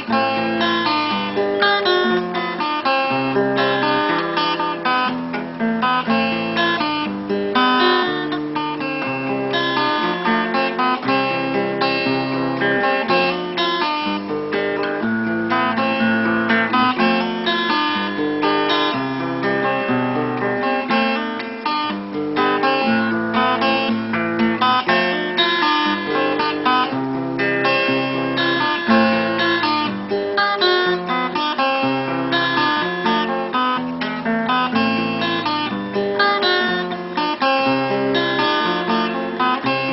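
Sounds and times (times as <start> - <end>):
fingerpicked acoustic guitar: 0.0 - 39.9.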